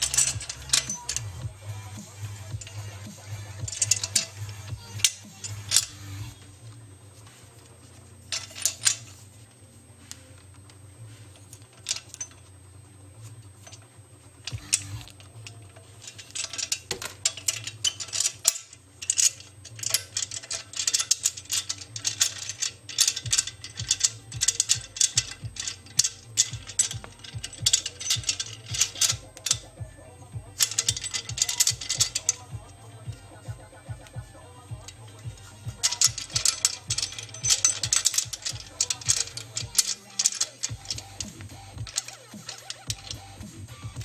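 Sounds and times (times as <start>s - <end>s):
bike rack clamp clicking and rattling: 0.0s - 6.8s, 7.4s - 9.4s, 10.0s - 12.6s, 13.2s - 44.0s
steady low hum: 0.0s - 44.0s.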